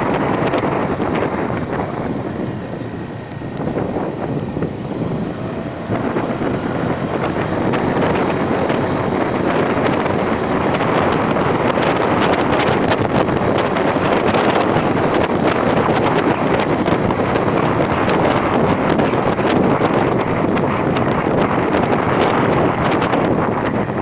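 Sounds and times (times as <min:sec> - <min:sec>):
vehicle running noise: 0:00.0 - 0:24.0
wind buffeting microphone: 0:00.0 - 0:24.0.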